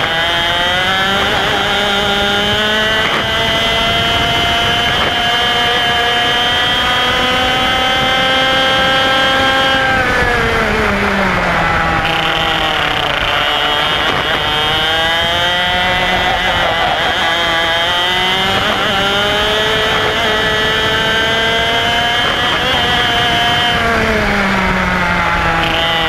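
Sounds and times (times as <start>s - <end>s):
kart engine revving: 0.0s - 26.0s.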